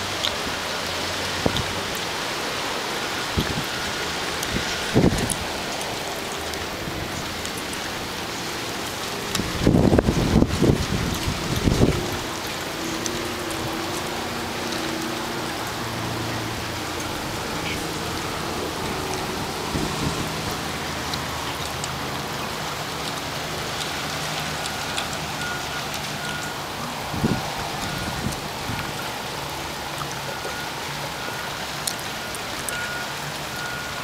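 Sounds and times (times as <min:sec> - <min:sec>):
rain falling on water and deck: 0:00.0 - 0:34.0.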